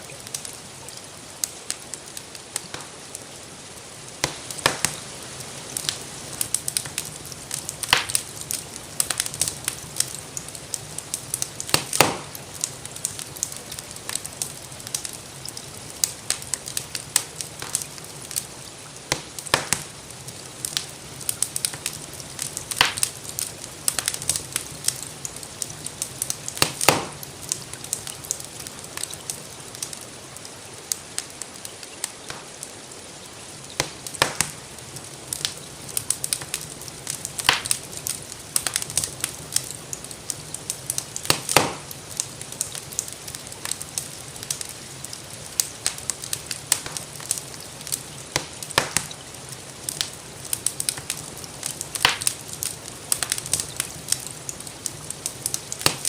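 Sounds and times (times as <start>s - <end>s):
rainfall hiss: 0.0s - 56.0s
sharp snaps from fire: 0.0s - 56.0s
wood fire crackling: 0.0s - 56.0s.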